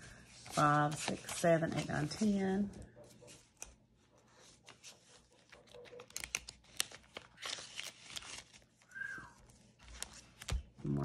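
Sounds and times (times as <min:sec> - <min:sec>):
paper banknotes rustling: 0:00.0 - 0:02.7, 0:04.4 - 0:11.0.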